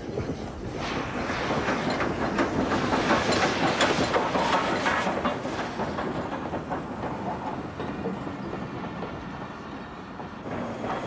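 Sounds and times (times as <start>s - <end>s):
train wheels clicking on rails: 0.0s - 11.0s.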